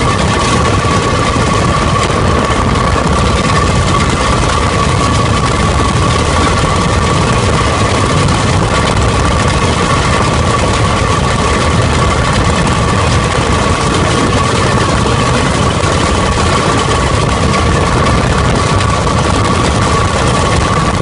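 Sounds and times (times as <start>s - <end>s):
rail trolley engine running: 0.0s - 21.0s
rumble of wheels on track: 0.0s - 21.0s
steady high whine: 0.0s - 21.0s.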